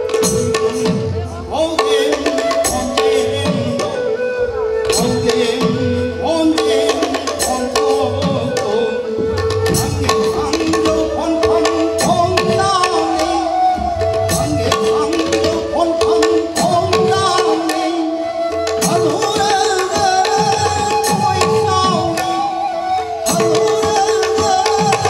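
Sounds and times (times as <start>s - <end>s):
barrel drum playing: 0.0s - 25.0s.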